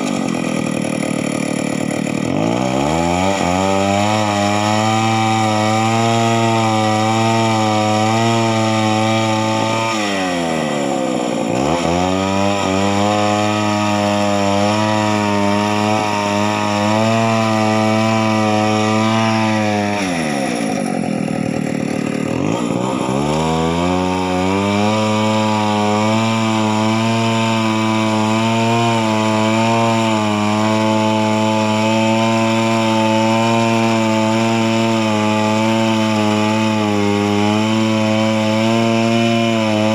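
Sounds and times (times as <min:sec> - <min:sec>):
chainsaw engine high revs: 0:00.0 - 0:39.9.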